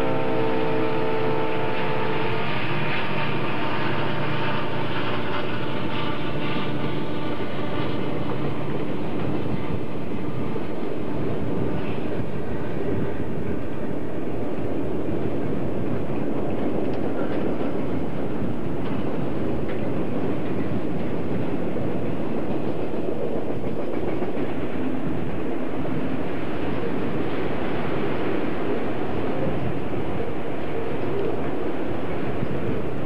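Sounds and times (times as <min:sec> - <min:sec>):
diesel locomotive hum: 0:00.0 - 0:33.0
train wheels rumbling on rail: 0:00.0 - 0:33.0.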